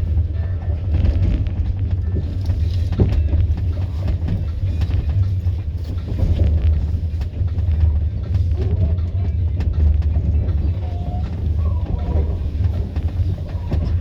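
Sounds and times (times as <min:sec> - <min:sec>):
train car rumbling: 0:00.0 - 0:14.0.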